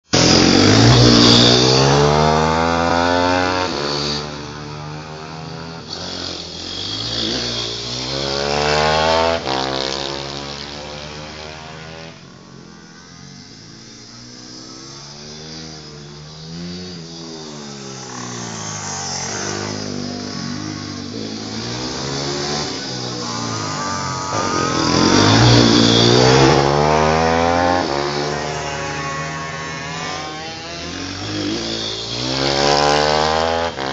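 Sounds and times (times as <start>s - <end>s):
pit bike engines revving: 0.1s - 33.9s.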